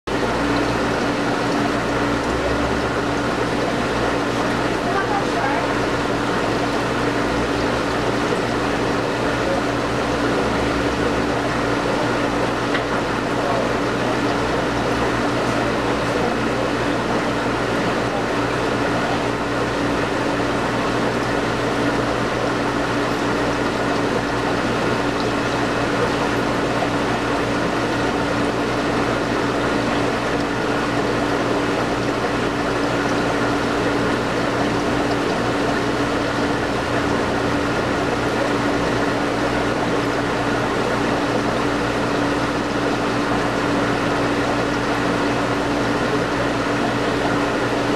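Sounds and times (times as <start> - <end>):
aquarium air pumps humming: 0.1 - 47.9
water bubbling in filters: 0.1 - 47.9.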